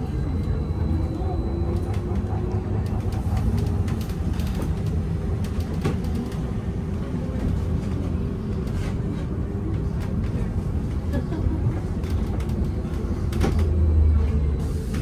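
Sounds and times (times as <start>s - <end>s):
trolleybus tyres rumbling: 0.0s - 15.0s.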